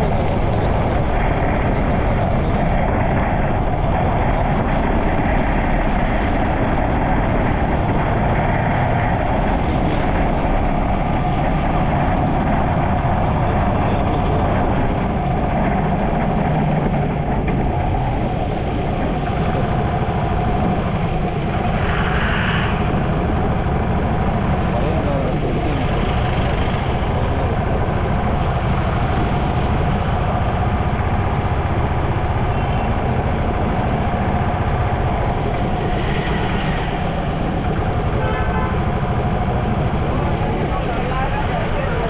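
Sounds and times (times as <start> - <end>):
vehicle driving on wet road: 0.0 - 42.0.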